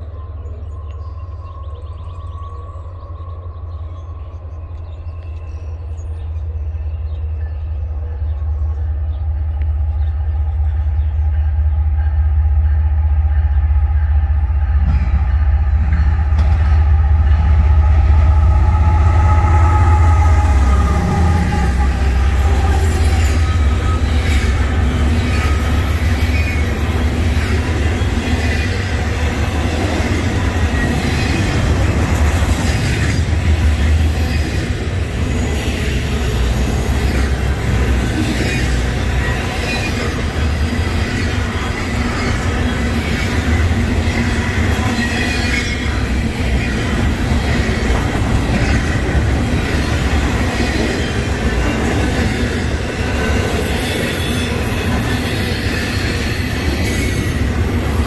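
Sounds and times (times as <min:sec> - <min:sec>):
diesel locomotive engine rumble: 0:00.0 - 0:58.0
train wheels clattering on rails: 0:09.4 - 0:58.0.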